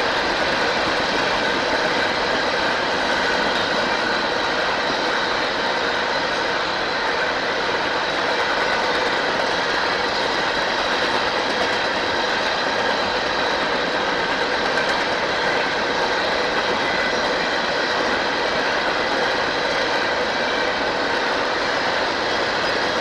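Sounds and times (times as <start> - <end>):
steel wheels on rail: 0.0 - 23.0.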